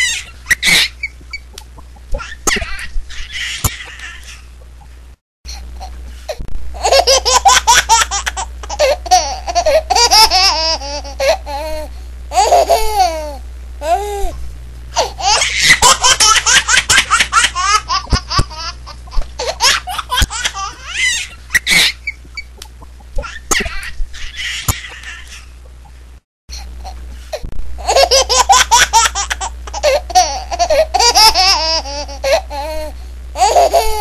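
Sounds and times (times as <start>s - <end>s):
baby laughing: 0.0s - 4.6s, 6.8s - 14.2s, 15.0s - 25.6s, 27.8s - 34.0s.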